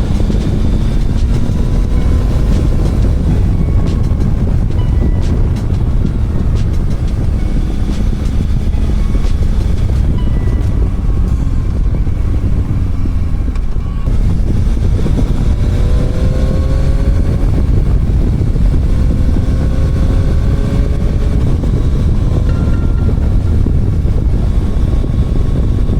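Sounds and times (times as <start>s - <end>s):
motorcycle engine running: 0.0s - 25.9s
wind rumble on microphone: 0.0s - 25.9s.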